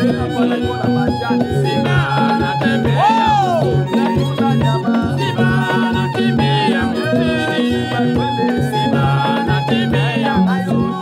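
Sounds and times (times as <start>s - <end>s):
lively music with bass beat: 0.0s - 11.0s.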